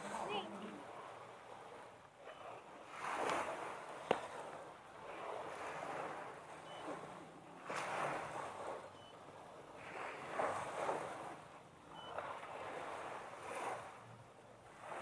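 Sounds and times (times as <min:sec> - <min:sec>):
small waves washing onto sand: 0:00.0 - 0:15.0.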